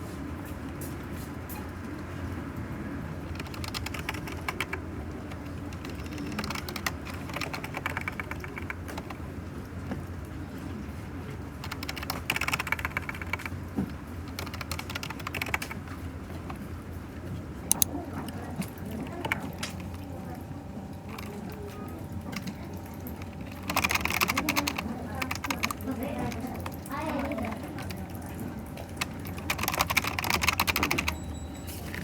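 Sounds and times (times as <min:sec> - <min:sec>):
steady low hum: 0:02.2 - 0:32.0
typing on computer keyboard: 0:03.2 - 0:10.1, 0:11.6 - 0:16.8, 0:17.7 - 0:31.6.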